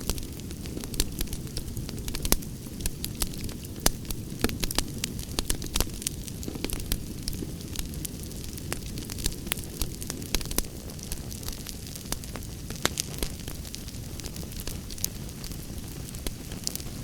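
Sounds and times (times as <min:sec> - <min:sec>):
burning wood crackling: 0:00.0 - 0:17.0
campfire flames rumbling: 0:00.0 - 0:17.0.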